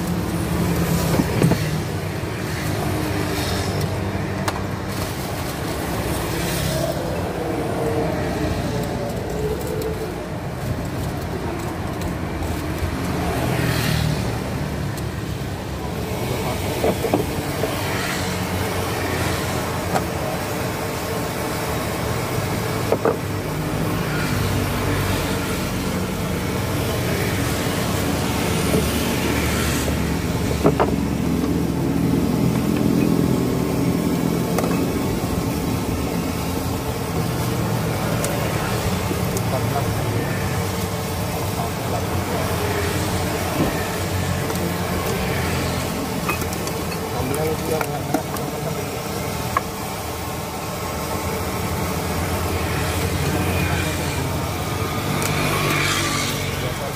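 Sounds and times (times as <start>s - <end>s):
low rumble of food stall: 0.0s - 56.9s.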